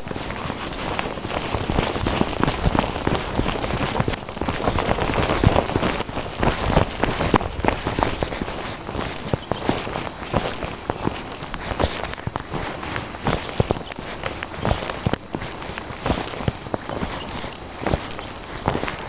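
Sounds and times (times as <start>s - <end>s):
footsteps on paved ground: 0.0s - 19.0s.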